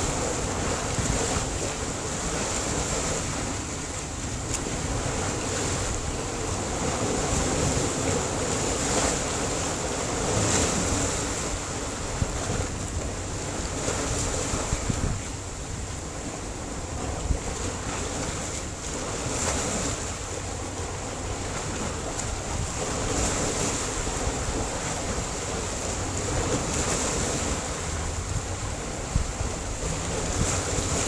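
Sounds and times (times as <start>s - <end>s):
sharp wave splashes: 0.0s - 31.0s
surf washing over rocky shore: 0.0s - 31.0s.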